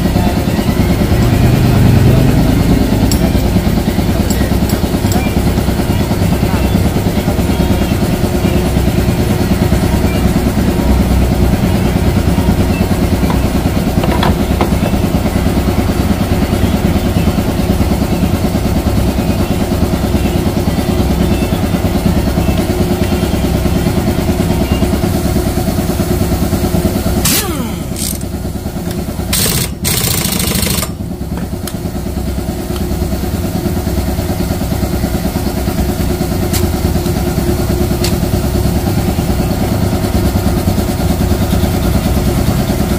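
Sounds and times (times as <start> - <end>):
scooter engine running: 0.0 - 42.9.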